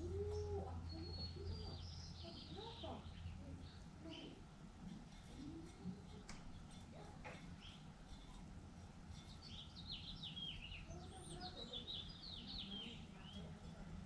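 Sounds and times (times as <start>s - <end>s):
songbird singing: 0.0s - 4.5s, 5.2s - 8.4s, 9.1s - 14.0s
low steady rumble: 0.0s - 14.0s.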